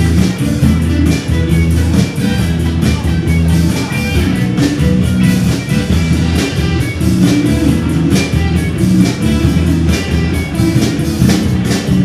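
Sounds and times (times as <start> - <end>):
drum kit beat: 0.0 - 12.0
electric guitars: 0.0 - 12.0.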